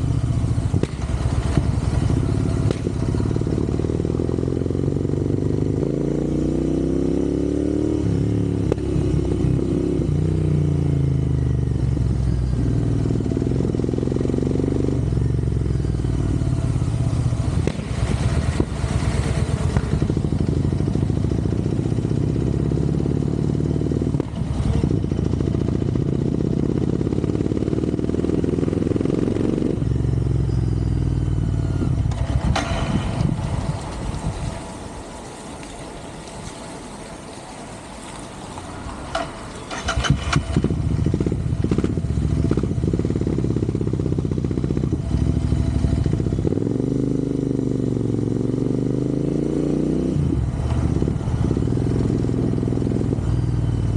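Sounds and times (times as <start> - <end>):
motorcycle engine accelerating: 0.0 - 36.0, 38.7 - 53.9.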